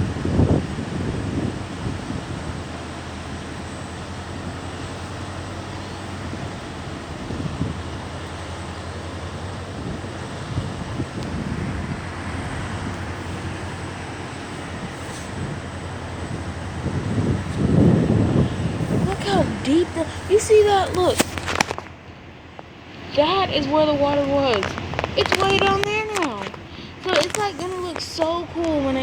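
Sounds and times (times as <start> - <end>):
steady low rumble: 0.0 - 29.0
wind buffeting microphone: 0.0 - 29.0.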